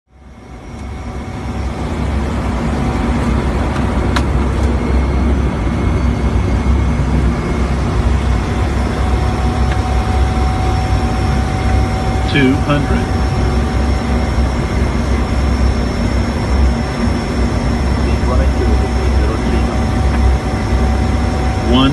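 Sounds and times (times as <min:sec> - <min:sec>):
turboprop engines droning: 0:00.1 - 0:21.9.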